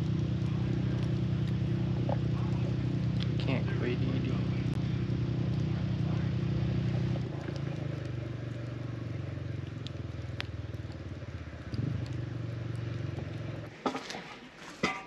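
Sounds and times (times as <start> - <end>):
motorcycle engine idling: 0.0 - 13.7.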